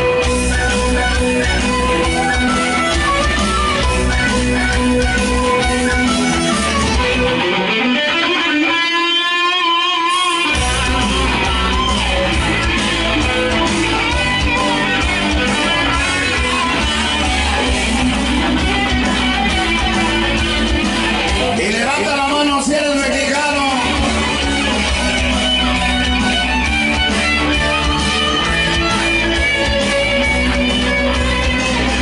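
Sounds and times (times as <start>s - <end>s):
electric guitar: 0.0s - 32.0s
rock music: 0.0s - 32.0s.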